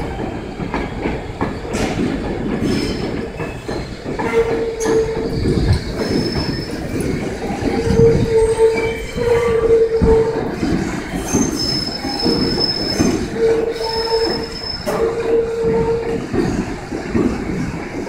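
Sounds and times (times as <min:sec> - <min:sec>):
train rumble and clatter: 0:00.0 - 0:18.0
train wheels squealing on rails: 0:00.0 - 0:18.0.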